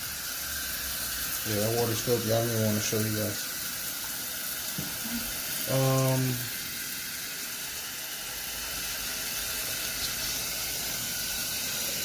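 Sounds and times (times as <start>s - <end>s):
water running into tub: 0.0s - 12.0s.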